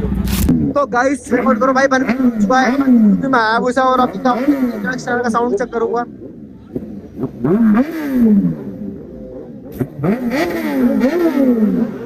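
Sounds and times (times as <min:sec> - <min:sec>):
motorcycle engine throttle blips: 0:00.0 - 0:12.0.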